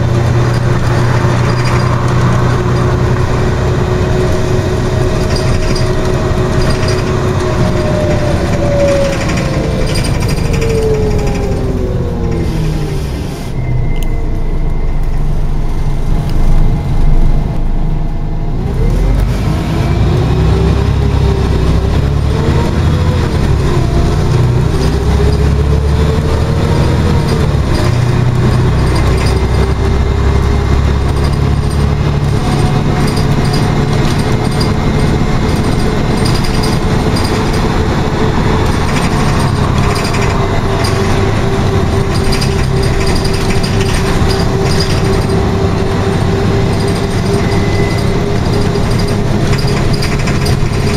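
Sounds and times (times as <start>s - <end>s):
bus diesel engine drone: 0.0s - 50.9s
drivetrain whine: 0.0s - 50.9s
road and tyre rumble: 0.0s - 50.9s.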